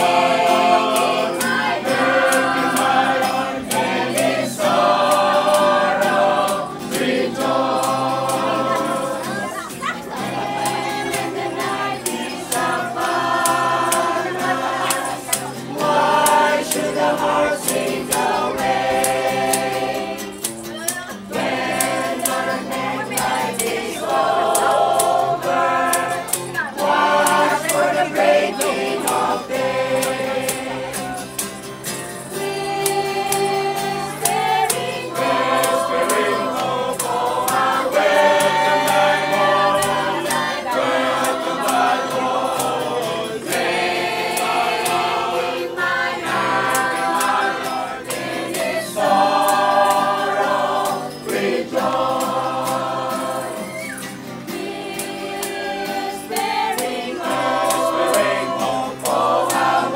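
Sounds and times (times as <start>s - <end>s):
group singing in chorus: 0.0s - 59.9s
strummed acoustic guitar: 0.0s - 59.9s.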